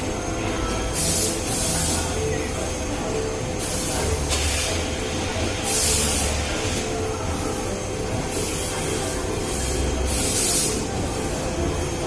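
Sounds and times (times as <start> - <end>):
machinery humming and rumbling: 0.0 - 12.0.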